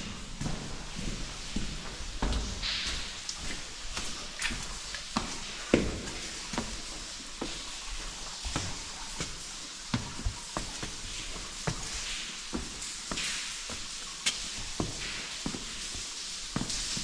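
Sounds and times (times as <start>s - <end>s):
footsteps on stony ground: 0.0s - 17.0s
steady hiss: 0.0s - 17.0s.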